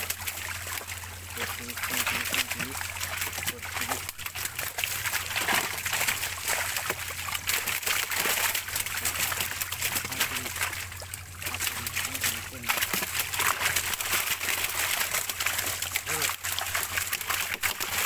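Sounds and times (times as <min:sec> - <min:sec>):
fish thrashing and splashing: 0:00.0 - 0:18.0
water sloshing and dribbling: 0:00.0 - 0:18.0.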